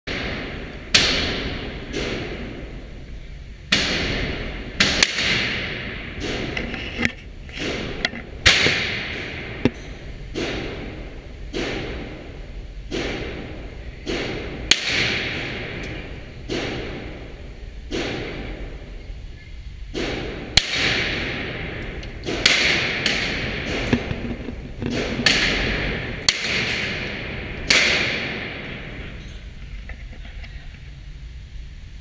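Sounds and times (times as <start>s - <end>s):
pistol shots echoing indoors: 0.1s - 6.6s, 7.6s - 29.6s.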